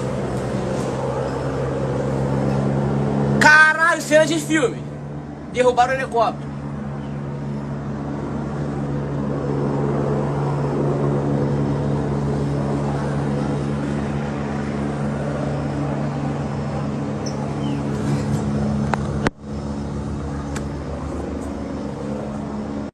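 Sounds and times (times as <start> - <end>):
helicopter engine and rotor: 0.0 - 22.9.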